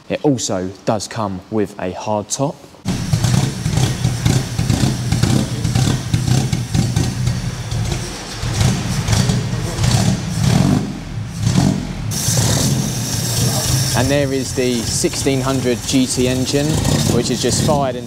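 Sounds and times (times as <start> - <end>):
car engine revving: 2.9 - 18.0.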